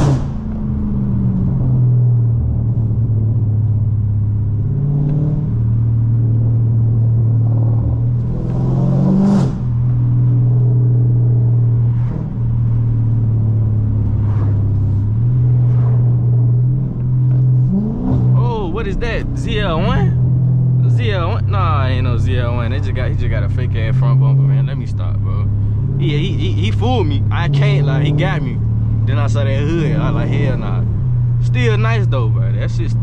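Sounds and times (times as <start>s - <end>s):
car engine exhaust droning: 0.0s - 33.0s.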